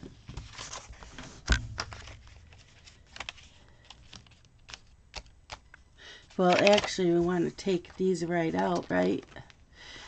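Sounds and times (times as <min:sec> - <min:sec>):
planner pages and discs clicking: 0:00.0 - 0:05.8, 0:06.4 - 0:09.5.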